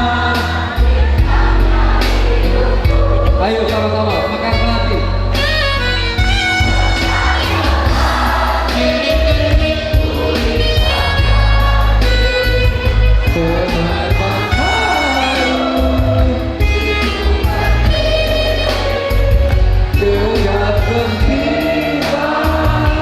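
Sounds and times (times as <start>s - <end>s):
choir singing: 0.0s - 5.4s, 6.1s - 23.0s
low bass accompaniment: 0.0s - 23.0s.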